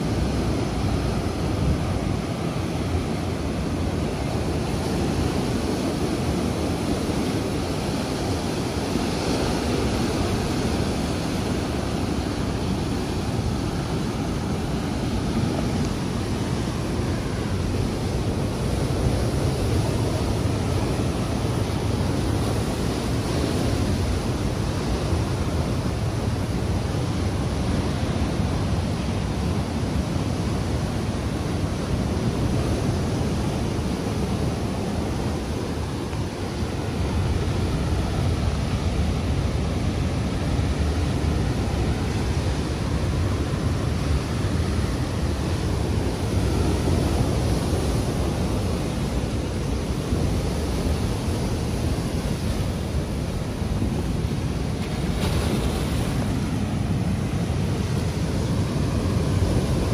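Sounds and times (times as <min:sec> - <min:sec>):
wind rumbling on microphone: 0:00.0 - 0:59.9.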